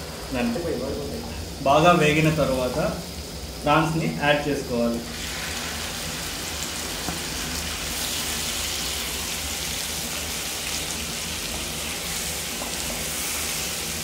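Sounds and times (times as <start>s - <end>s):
prawns sizzling in hot oil: 0.0s - 14.0s.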